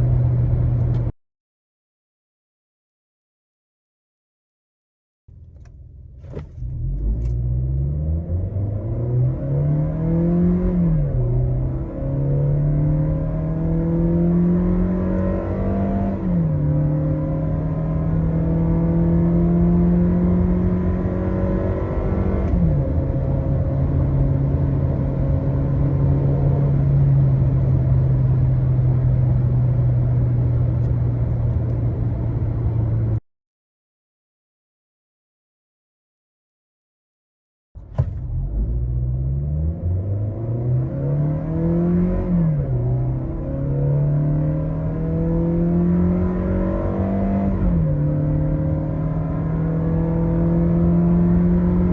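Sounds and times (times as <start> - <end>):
car engine accelerating hard: 5.6 - 33.2, 37.8 - 51.9.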